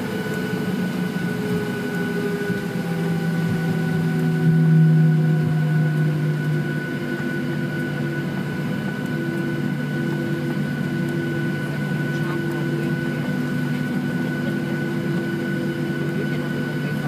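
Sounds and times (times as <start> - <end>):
high engine whine: 0.0 - 17.0
jet engines idling low drone: 0.0 - 17.0.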